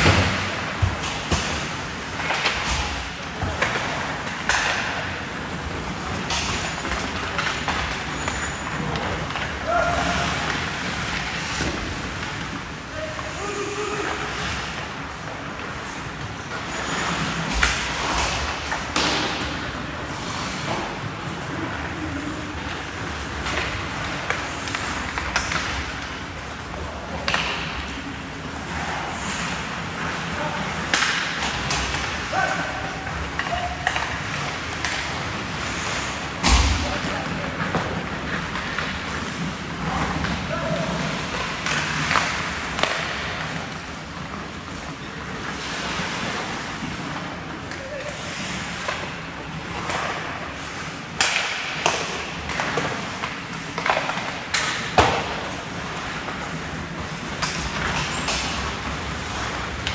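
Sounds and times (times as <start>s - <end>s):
sticks clacking on puck: 0.0s - 12.6s, 15.5s - 22.0s, 22.6s - 26.2s, 27.1s - 28.1s, 28.7s - 59.9s
skates scraping on ice: 0.0s - 59.9s
steady rink hum: 0.0s - 59.9s.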